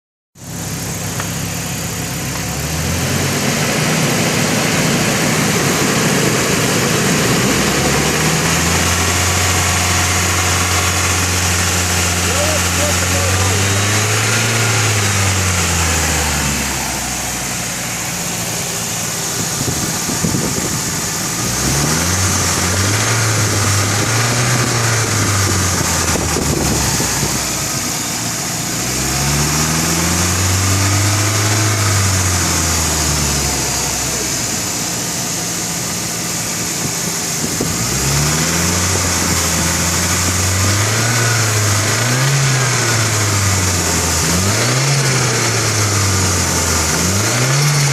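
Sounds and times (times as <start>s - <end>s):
car engine revving: 0.5s - 47.9s.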